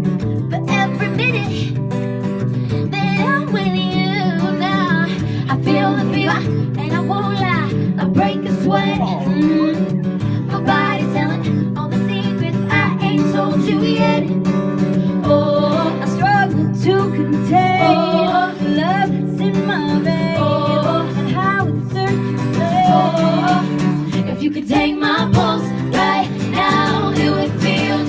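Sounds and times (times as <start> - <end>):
acoustic guitar: 0.0 - 28.0
women singing pop song: 2.8 - 14.4, 15.0 - 28.0.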